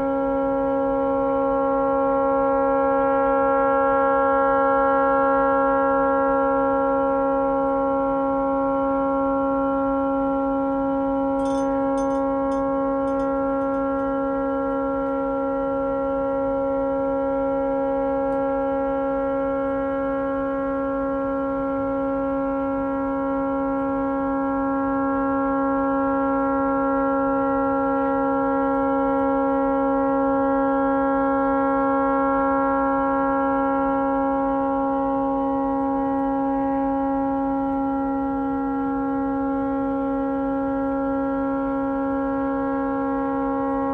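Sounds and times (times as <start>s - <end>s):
tugboat horn sounding continuously: 0.0s - 43.9s.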